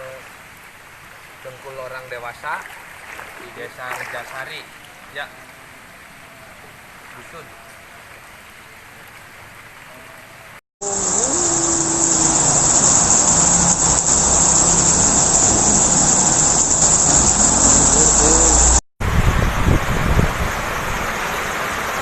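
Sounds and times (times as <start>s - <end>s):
rain wind and water rushing: 0.0s - 22.0s.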